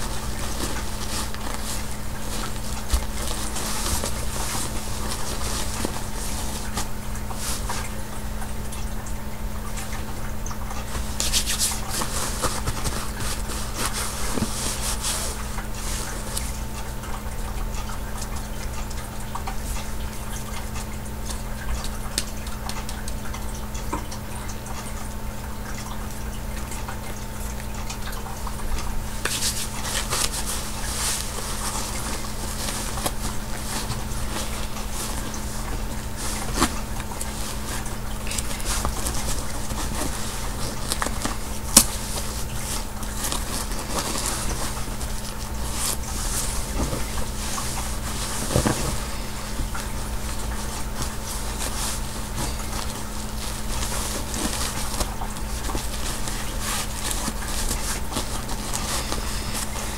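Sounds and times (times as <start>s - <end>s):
diaper and wipes crinkling: 0.0s - 25.0s, 25.6s - 59.9s
steady low hum: 0.0s - 59.9s.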